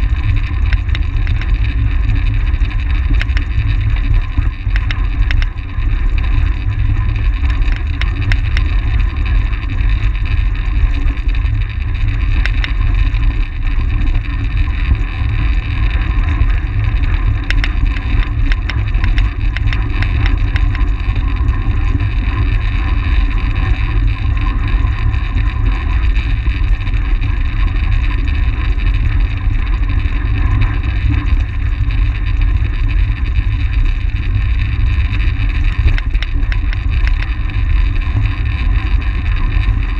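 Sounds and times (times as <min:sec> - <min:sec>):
bike tyres and drivetrain whir: 0:00.0 - 0:39.9
wind rumble on microphone: 0:00.0 - 0:39.9.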